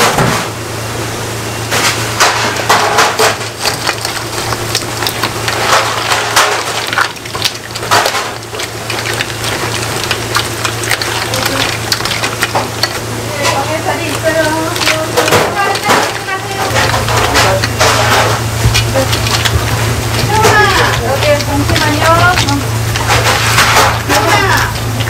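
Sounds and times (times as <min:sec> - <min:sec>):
steady low hum: 0:00.0 - 0:25.0
wet squelching of hands mixing noodles: 0:02.0 - 0:25.0.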